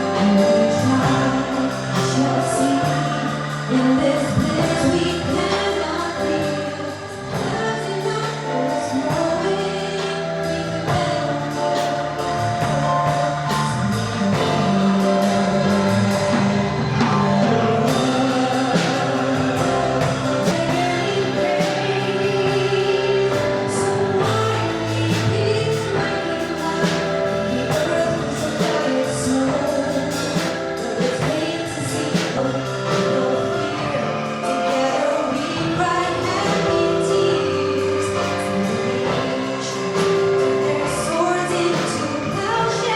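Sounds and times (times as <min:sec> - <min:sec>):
angklung ensemble chords: 0:00.0 - 0:42.9
singing: 0:00.0 - 0:42.9.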